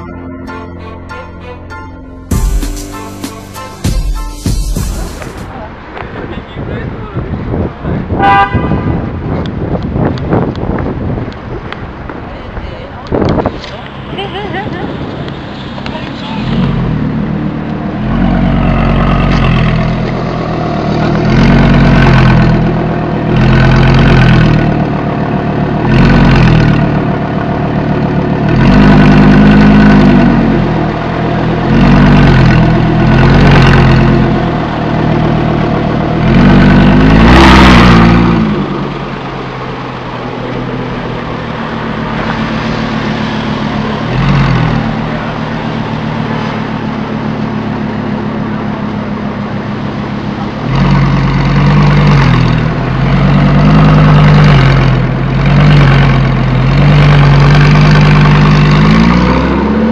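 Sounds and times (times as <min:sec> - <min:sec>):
car engine revving and idling: 0:02.4 - 0:59.9.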